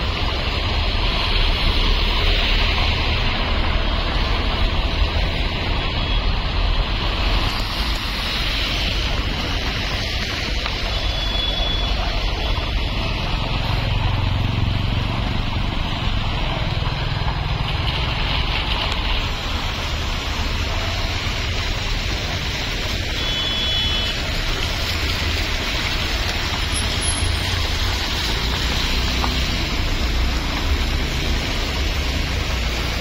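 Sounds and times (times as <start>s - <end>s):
vehicles on wet road: 0.0s - 33.0s.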